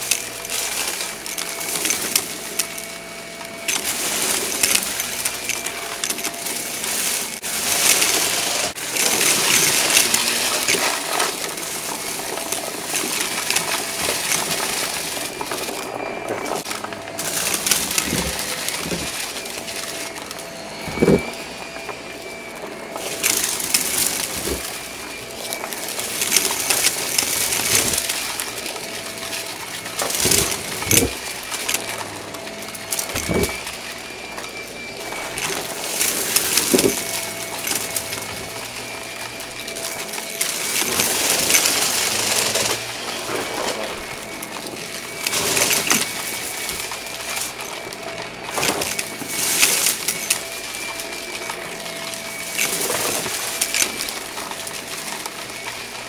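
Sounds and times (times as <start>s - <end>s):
debris clicking in vacuum: 0.0s - 56.0s
vacuum cleaner running: 0.0s - 56.0s.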